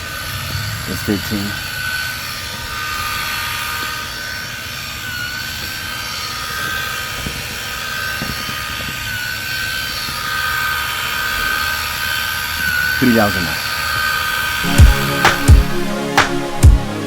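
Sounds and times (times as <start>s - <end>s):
stone polisher motor whine: 0.0s - 14.7s.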